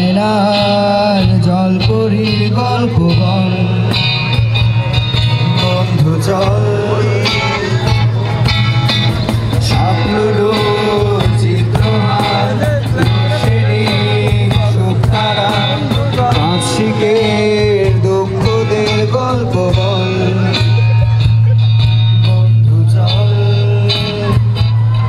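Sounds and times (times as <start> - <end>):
man singing into a microphone: 0.0 - 4.5, 5.2 - 8.3, 9.5 - 25.0
acoustic guitars: 0.0 - 25.0
cajon beat: 0.0 - 25.0.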